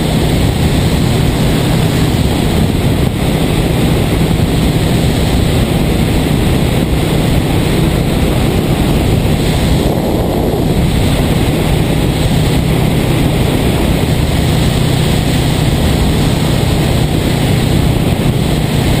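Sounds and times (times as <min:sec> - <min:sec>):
motorcycle engine cruising: 0:00.0 - 0:19.0
wind rush on microphone: 0:00.0 - 0:19.0.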